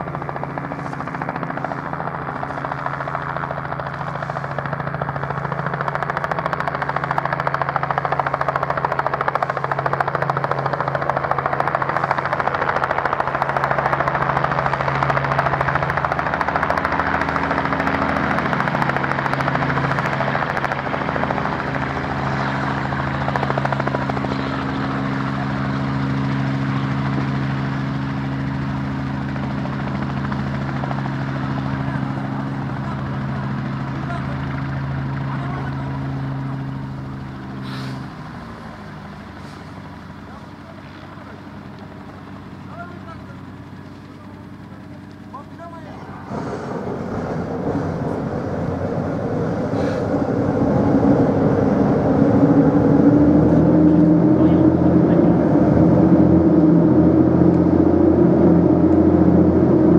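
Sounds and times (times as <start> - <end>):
helicopter rotor and engine drone: 0.0 - 59.9
low hum: 0.0 - 59.9.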